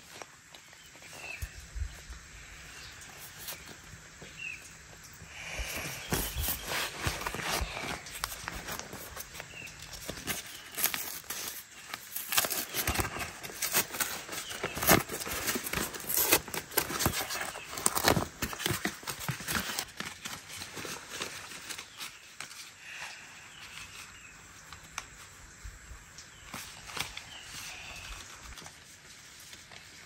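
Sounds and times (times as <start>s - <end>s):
paper rustling and crinkling: 0.0s - 25.4s, 26.1s - 30.0s.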